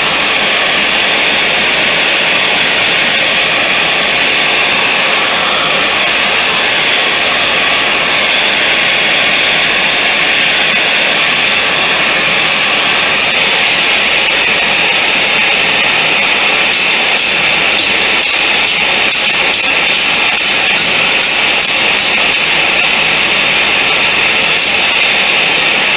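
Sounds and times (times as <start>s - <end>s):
forge air blast rushing: 0.0s - 25.9s.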